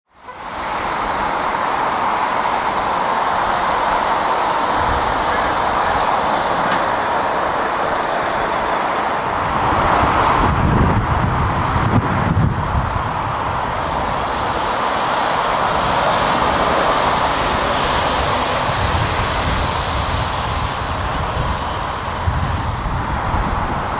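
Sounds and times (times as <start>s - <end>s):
deep lorry engine rumble: 0.2s - 23.9s.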